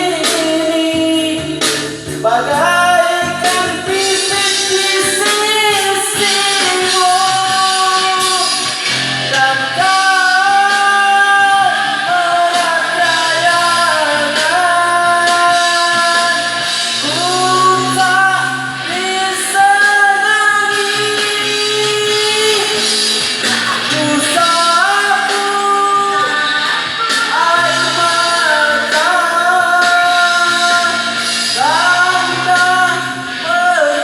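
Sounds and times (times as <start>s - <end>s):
instrumental accompaniment: 0.0s - 34.0s
person singing: 0.0s - 34.0s.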